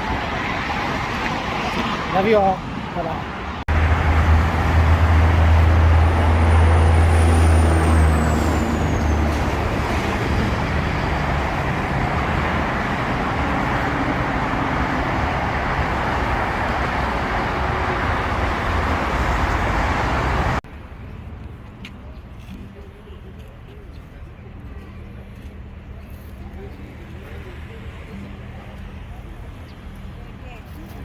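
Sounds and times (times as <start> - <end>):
passing traffic: 0.0 - 31.0
heavy vehicle engine rumble: 3.3 - 31.0.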